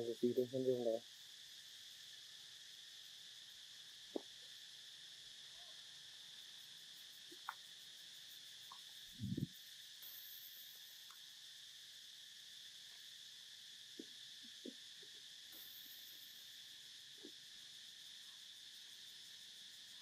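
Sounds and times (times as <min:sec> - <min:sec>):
insect chorus chirring: 0:00.0 - 0:20.0.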